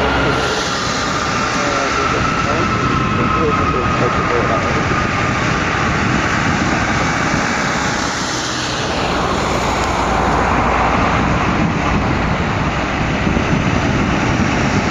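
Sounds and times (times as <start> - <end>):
falling jet whine: 0.0 - 14.9
jet engines roaring: 0.0 - 14.9.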